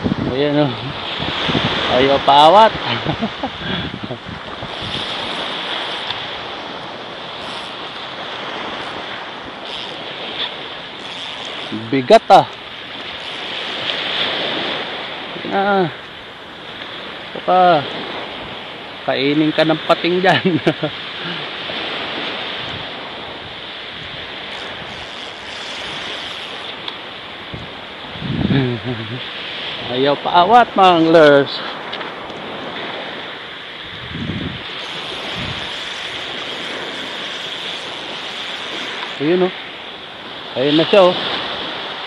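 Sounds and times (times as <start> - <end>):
surf washing up a beach: 0.0 - 42.0
wind on microphone: 0.0 - 42.0.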